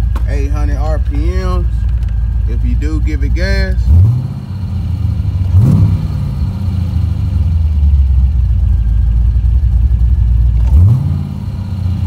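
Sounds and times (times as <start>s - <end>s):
car engine idling: 0.0s - 12.0s
car engine revving: 0.0s - 12.0s.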